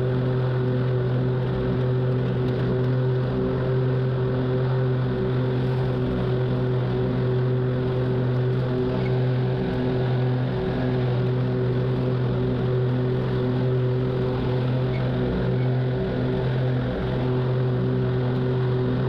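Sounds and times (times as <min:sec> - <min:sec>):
lawn mower engine humming: 0:00.0 - 0:19.0.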